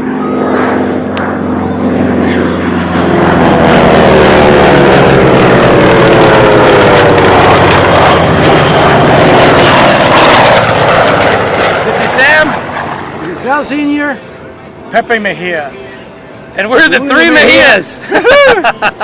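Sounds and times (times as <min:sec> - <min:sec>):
airplane engine flying past: 0:00.0 - 0:18.2.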